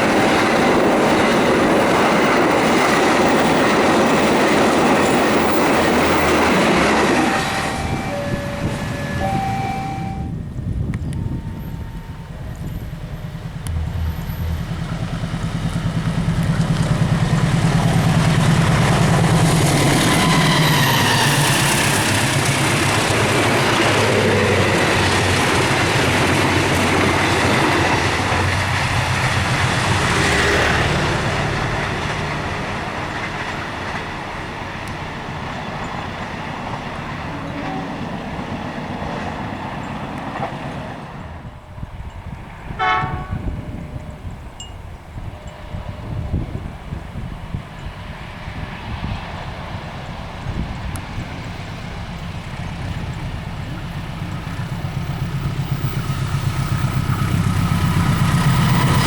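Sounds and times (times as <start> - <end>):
train cars rolling: 0.0 - 59.0
train engine rumble: 0.0 - 59.0.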